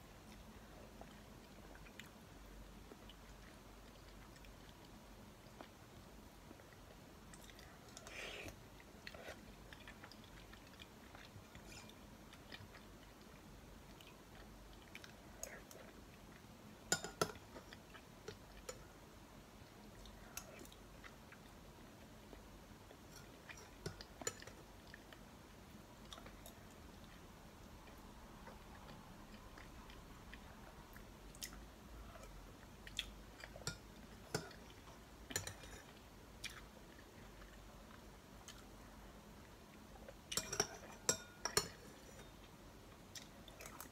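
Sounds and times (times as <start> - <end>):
soft chewing: 0.0 - 43.9
soft eating sounds: 0.0 - 43.9.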